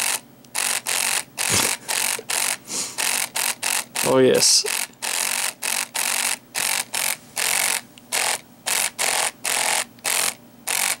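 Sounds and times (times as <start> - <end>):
hissy buzz in short bursts: 0.0 - 11.0.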